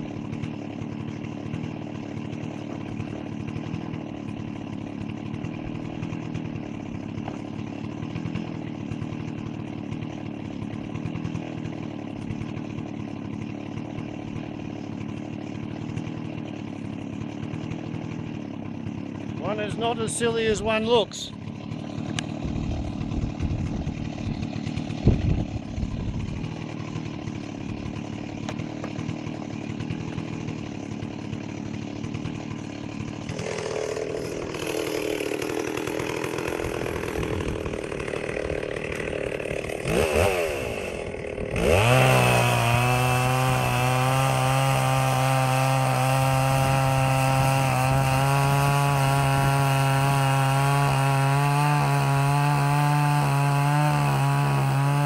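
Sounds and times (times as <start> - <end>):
chainsaw revving and cutting: 0.0 - 55.0.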